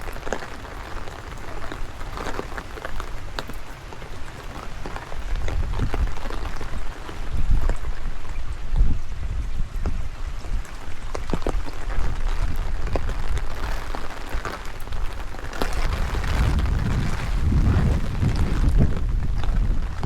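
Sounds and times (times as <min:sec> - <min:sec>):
rain falling: 0:00.0 - 0:20.0
raindrops ticking: 0:00.0 - 0:20.0
wind buffeting microphone: 0:00.0 - 0:20.0.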